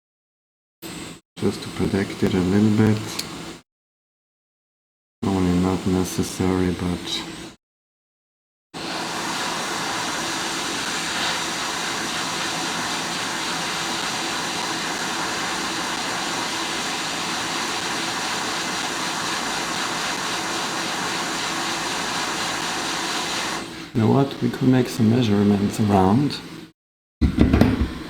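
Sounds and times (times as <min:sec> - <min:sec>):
hot air station hissing: 0:01.4 - 0:03.6, 0:05.2 - 0:07.6, 0:08.8 - 0:26.7.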